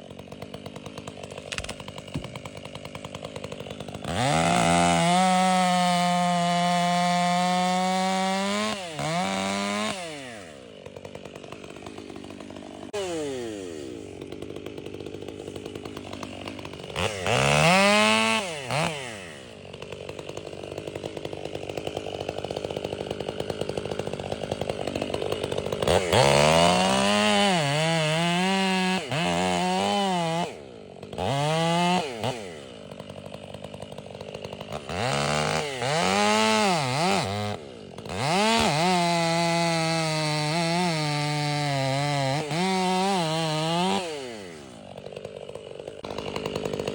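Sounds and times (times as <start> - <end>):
chainsaw revving and idling: 0.0 - 46.9.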